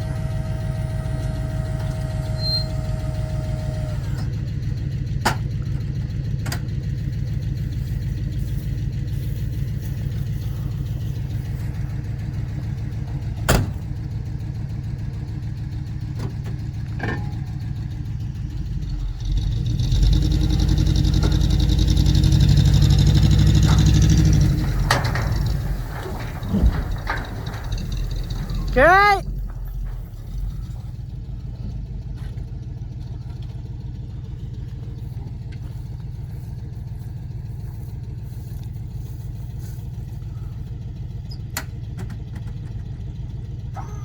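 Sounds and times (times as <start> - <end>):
vehicle engine running: 0.0 - 44.0.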